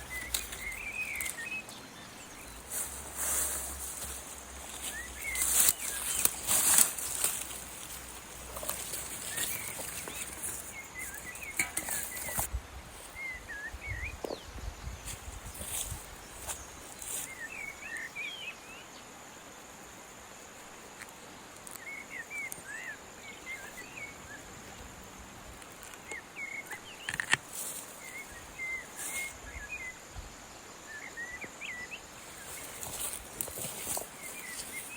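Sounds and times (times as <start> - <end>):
small birds chirping: 0.0 - 19.0, 21.1 - 24.9, 25.5 - 30.0, 30.9 - 34.9.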